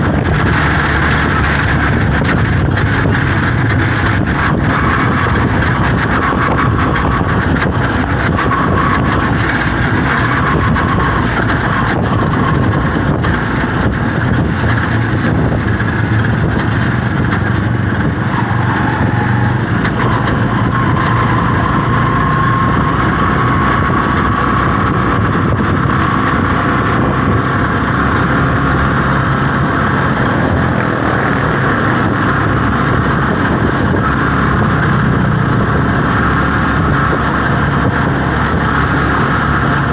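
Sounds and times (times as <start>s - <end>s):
road noise: 0.0s - 39.9s
vehicle engine running: 0.0s - 39.9s
wind: 0.0s - 39.9s.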